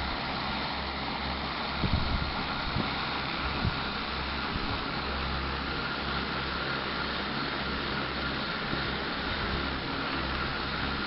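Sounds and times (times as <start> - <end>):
drone rotors whirring: 0.0 - 11.0.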